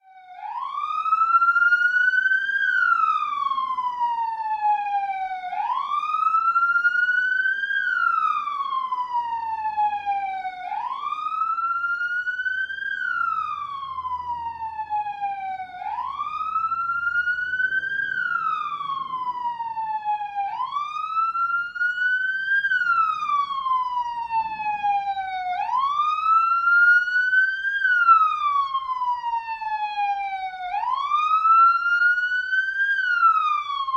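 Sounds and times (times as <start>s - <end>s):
police siren wailing: 0.0s - 33.9s.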